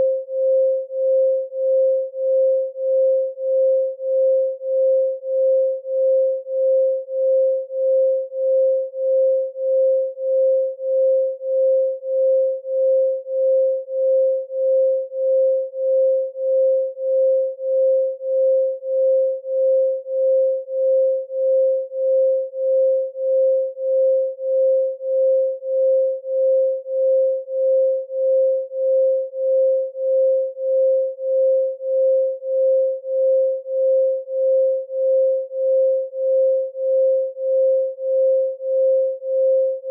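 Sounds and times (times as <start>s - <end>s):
pulsing sine tone: 0.0s - 39.9s.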